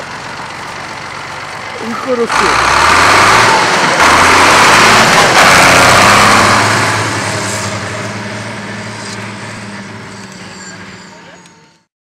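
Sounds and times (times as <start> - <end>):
diesel engine passing by: 0.0 - 11.9.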